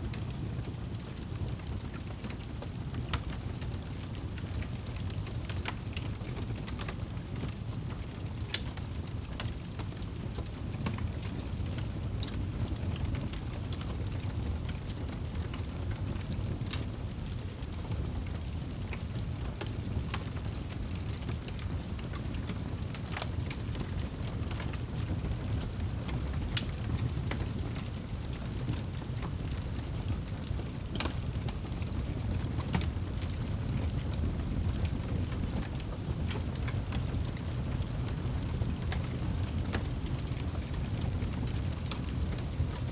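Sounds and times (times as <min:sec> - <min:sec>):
steady rain: 0:00.0 - 0:42.9
fire crackling: 0:00.1 - 0:42.9.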